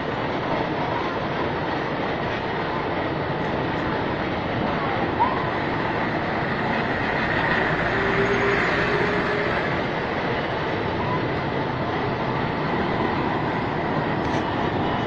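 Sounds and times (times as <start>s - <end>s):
fire truck engines running: 0.0s - 15.0s
street noise hiss: 0.0s - 15.0s.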